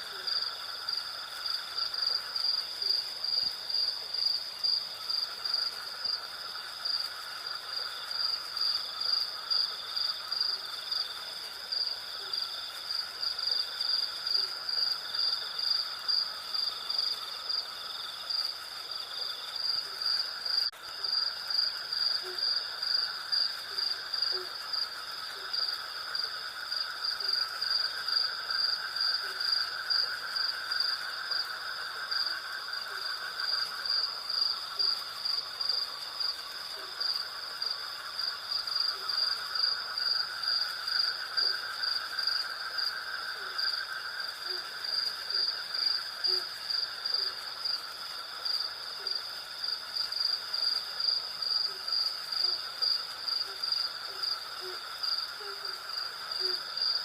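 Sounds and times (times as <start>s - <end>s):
crickets chirping: 0.0s - 57.0s
insect drone: 0.0s - 57.0s.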